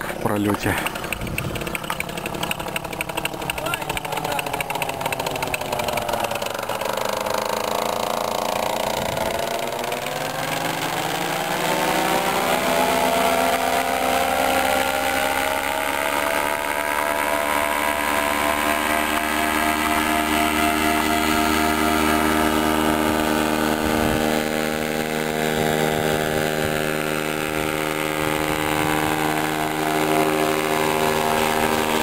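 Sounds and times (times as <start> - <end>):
paramotor engine droning: 0.0 - 32.0.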